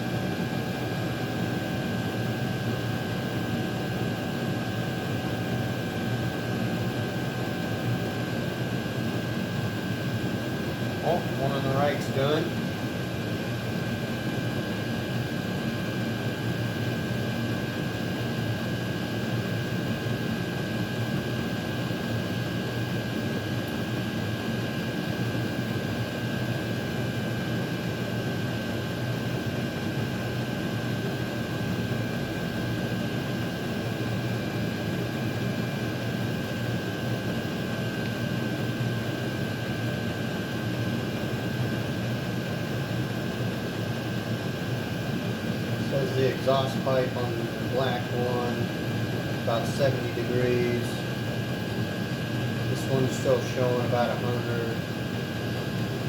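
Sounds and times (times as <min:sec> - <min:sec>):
heater blower fans running: 0:00.0 - 0:56.0.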